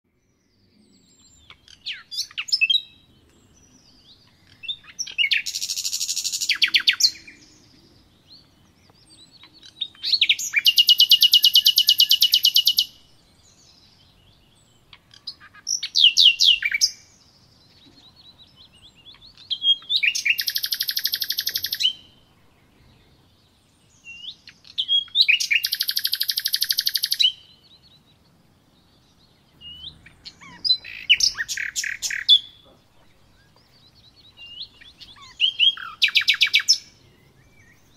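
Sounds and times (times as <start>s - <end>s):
songbird singing with buzzy trill: 0.1s - 37.9s.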